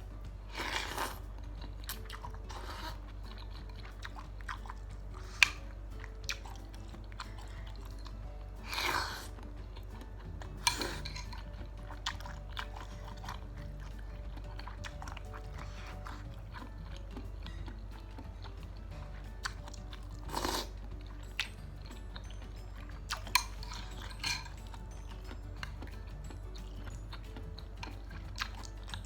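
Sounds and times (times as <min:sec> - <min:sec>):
close chewing and mouth sounds: 0:00.0 - 0:29.0
soft background music: 0:00.0 - 0:29.0.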